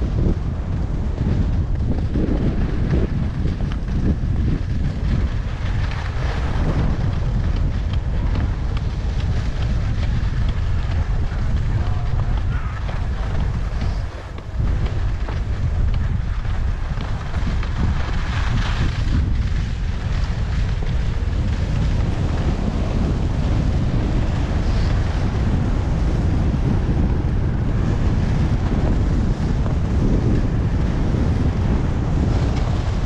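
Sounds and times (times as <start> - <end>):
wind rumble on microphone: 0.0 - 33.0
skis hissing over snow: 0.2 - 33.0.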